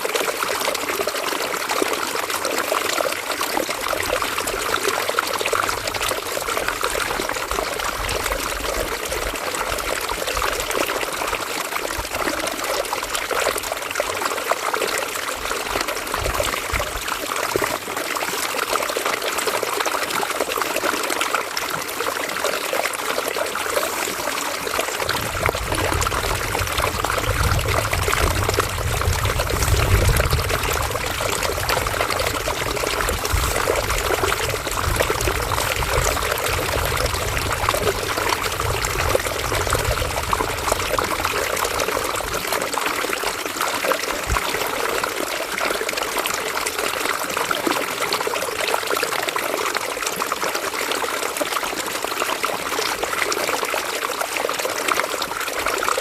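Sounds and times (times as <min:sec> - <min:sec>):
river water babbling over stones: 0:00.0 - 0:56.0.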